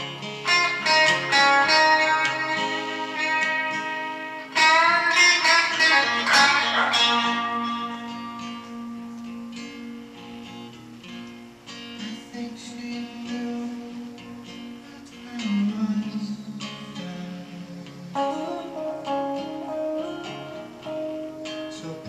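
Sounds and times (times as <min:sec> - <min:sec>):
acoustic and electric guitars playing: 0:00.0 - 0:22.0.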